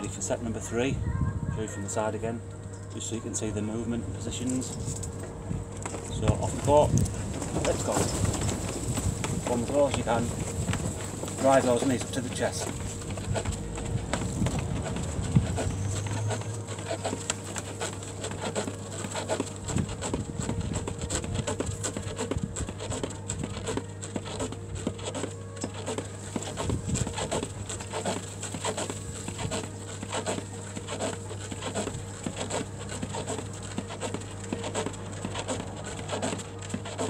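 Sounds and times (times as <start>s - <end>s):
steady low hum: 0.0s - 37.0s
feet tapping and scuffing on ground: 4.2s - 37.0s.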